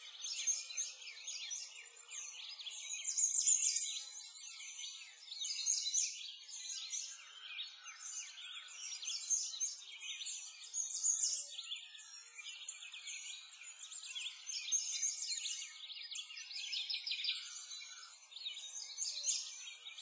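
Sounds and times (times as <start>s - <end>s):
many birds chirping: 0.0s - 20.0s.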